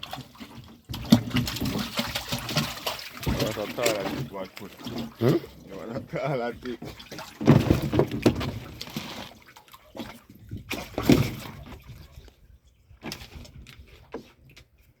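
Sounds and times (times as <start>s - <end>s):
water sloshing in a tank: 0.0s - 15.0s.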